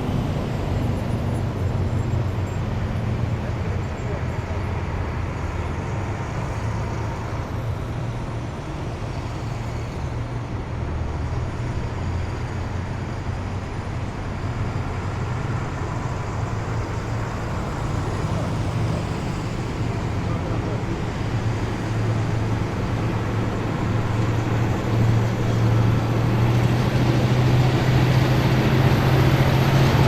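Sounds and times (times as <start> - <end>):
heavy vehicles engine rumble: 0.0 - 30.0.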